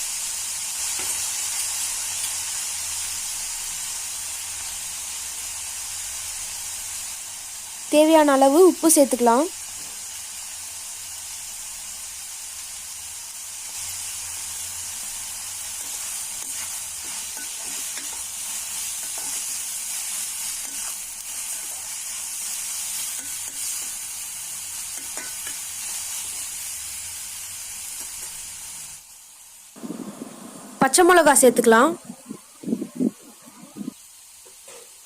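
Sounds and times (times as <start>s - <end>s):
onions sizzling in a pan: 0.0s - 35.0s.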